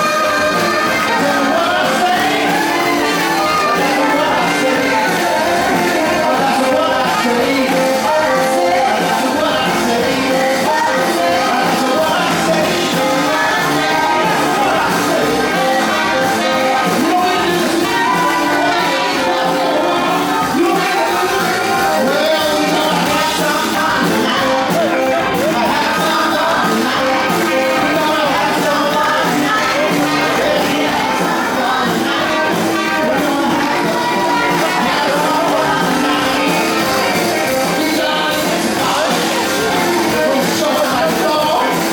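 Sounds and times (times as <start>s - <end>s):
live band playing popular music: 0.0s - 41.9s
person singing: 0.0s - 41.9s.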